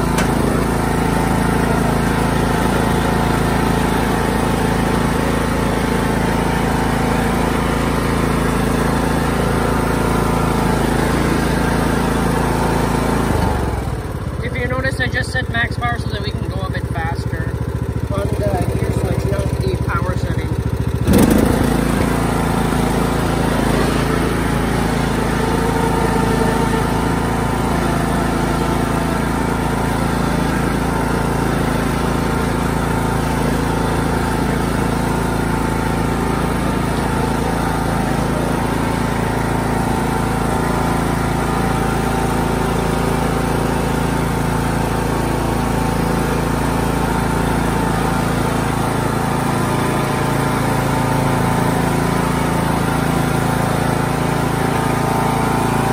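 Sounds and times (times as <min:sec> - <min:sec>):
riding mower engine running: 0:00.0 - 0:55.9.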